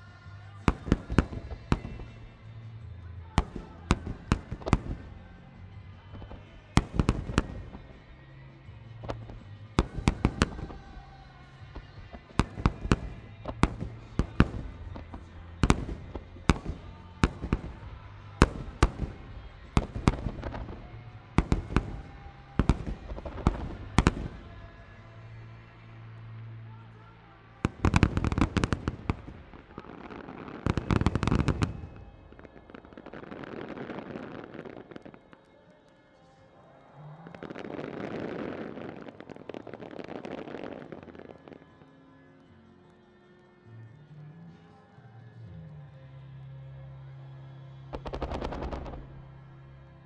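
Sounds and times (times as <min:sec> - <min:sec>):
fireworks bursting with sharp bangs: 0:00.0 - 0:42.6, 0:47.0 - 0:50.0
background music: 0:00.0 - 0:50.0.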